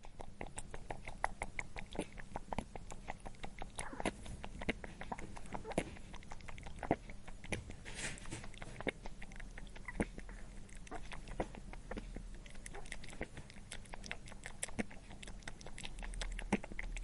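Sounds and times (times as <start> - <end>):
rabbit chewing food: 0.0 - 17.0.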